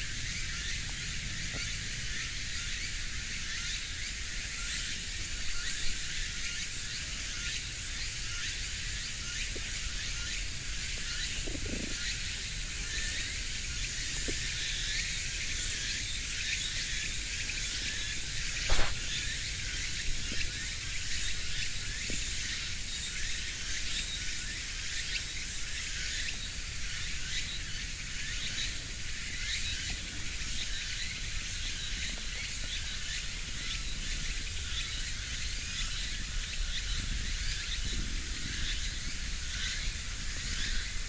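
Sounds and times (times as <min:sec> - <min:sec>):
high insect drone: 0:00.0 - 0:41.0.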